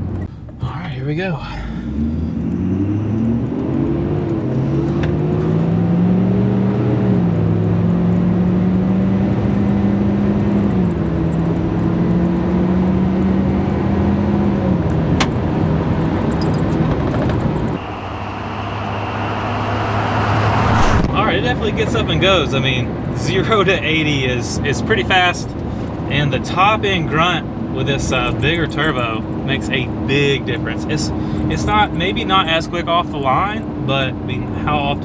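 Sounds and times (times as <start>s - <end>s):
diesel truck engine accelerating: 1.2s - 35.0s.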